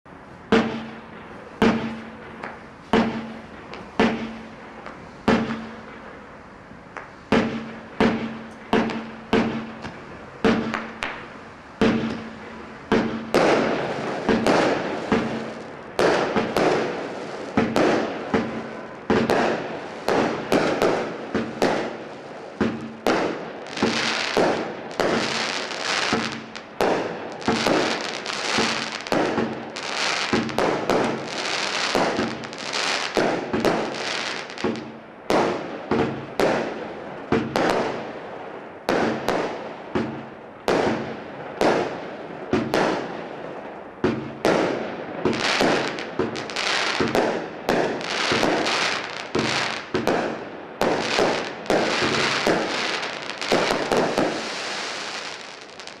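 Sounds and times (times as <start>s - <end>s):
firework launch bangs and bursts: 0.5s - 4.5s, 5.2s - 6.0s, 7.0s - 43.3s, 44.0s - 56.0s
firework crackling hiss: 0.5s - 36.7s, 44.1s - 56.0s.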